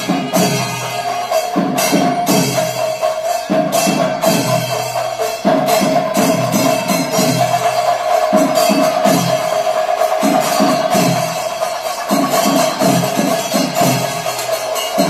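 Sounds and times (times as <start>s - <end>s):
cymbals clashing: 0.0s - 15.0s
drums beaten: 0.0s - 15.0s.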